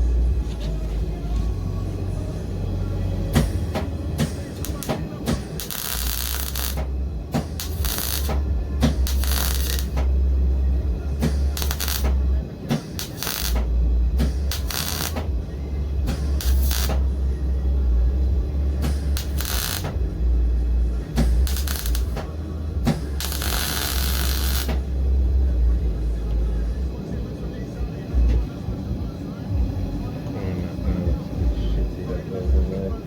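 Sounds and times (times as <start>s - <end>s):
welder humming with crackling arc: 0.0s - 26.9s.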